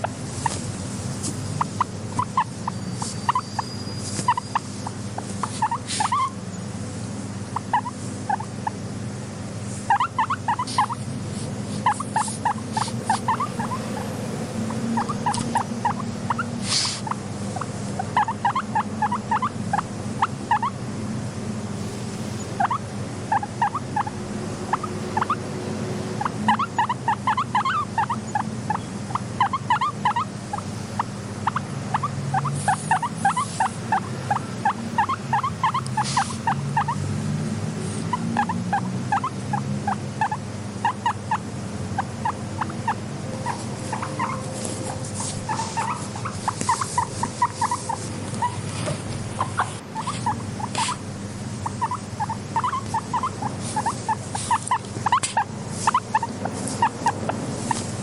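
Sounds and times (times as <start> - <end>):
guinea pig squeaking: 0.0 - 6.5, 7.4 - 8.8, 9.7 - 20.8, 22.4 - 25.5, 26.2 - 37.1, 37.8 - 58.0
steady low hum: 0.0 - 58.0.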